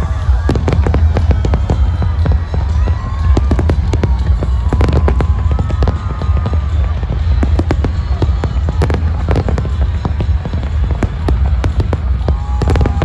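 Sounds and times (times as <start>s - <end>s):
fireworks cracking: 0.0s - 13.0s.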